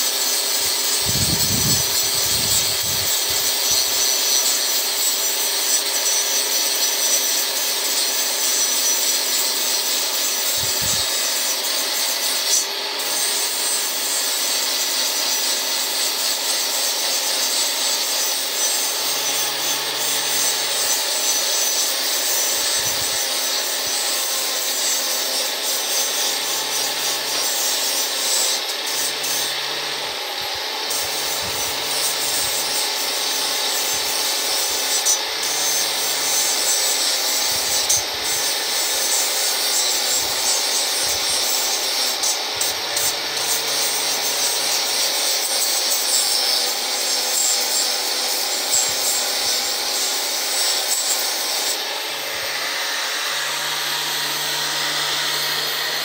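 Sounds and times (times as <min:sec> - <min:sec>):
angle grinder grinding metal: 0:00.0 - 0:56.0.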